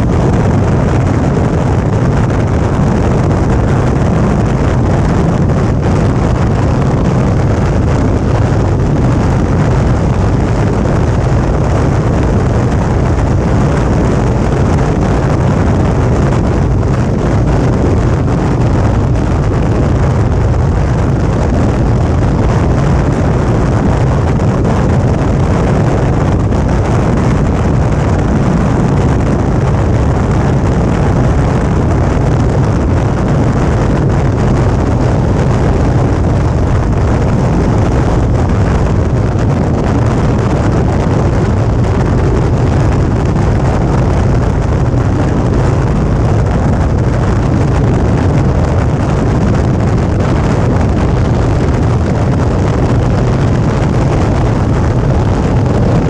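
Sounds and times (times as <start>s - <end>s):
road noise: 0.0s - 56.0s
wind rush on microphone: 0.0s - 56.0s.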